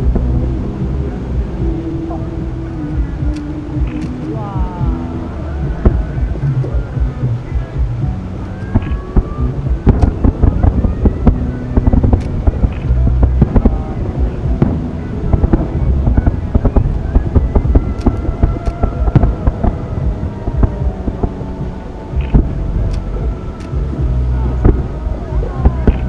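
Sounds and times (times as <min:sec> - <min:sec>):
distant fireworks bangs and crackles: 0:00.0 - 0:26.0
low rumble: 0:00.0 - 0:26.0.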